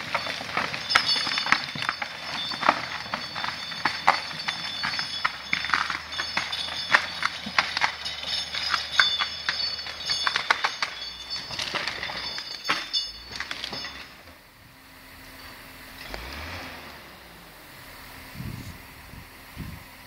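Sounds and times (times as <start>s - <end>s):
skidder engine running: 0.0s - 20.0s.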